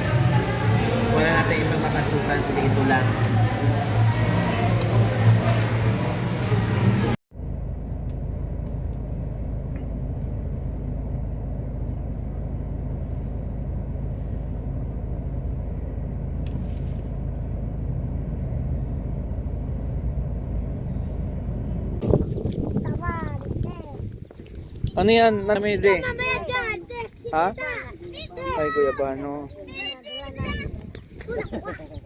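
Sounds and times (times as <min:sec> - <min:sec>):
road vehicle engine and road noise: 0:00.0 - 0:32.0.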